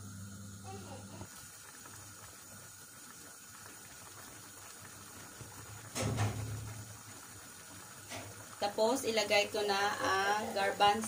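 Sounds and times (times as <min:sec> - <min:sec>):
stew bubbling in a pan: 0:00.0 - 0:11.0.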